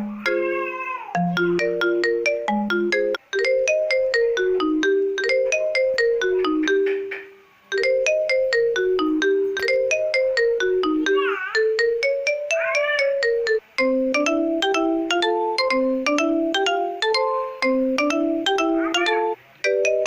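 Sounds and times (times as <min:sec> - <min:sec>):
marimba phone ringtone: 0:00.0 - 0:20.0.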